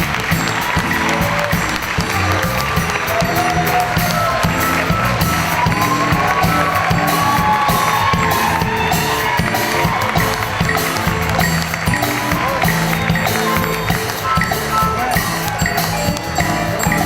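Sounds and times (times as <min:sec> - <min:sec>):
band music with drums and bass: 0:00.0 - 0:17.0.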